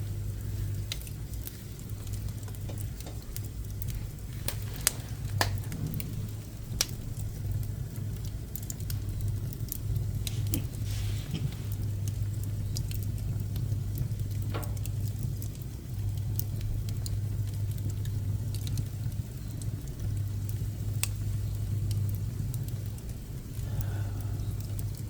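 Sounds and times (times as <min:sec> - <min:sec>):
steady low hum: 0:00.0 - 0:25.0
wood fire crackling and popping: 0:00.0 - 0:25.0.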